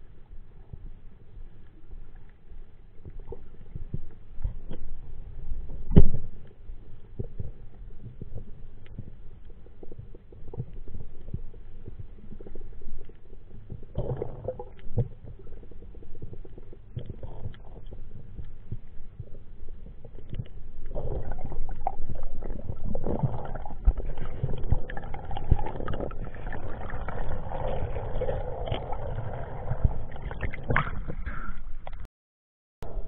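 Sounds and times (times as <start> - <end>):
underwater knocks and clicks: 3.0 - 32.0
underwater rumbling wash: 3.7 - 32.0.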